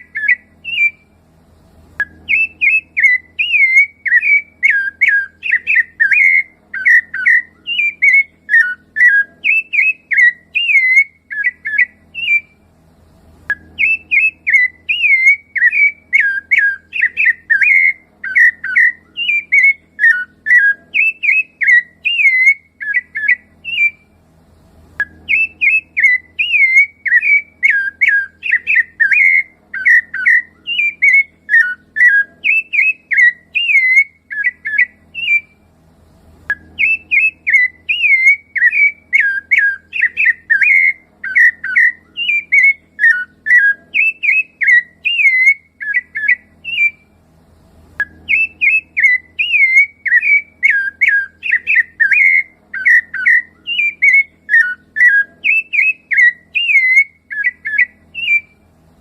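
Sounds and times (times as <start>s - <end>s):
thrush singing whistled notes: 0.0s - 58.8s.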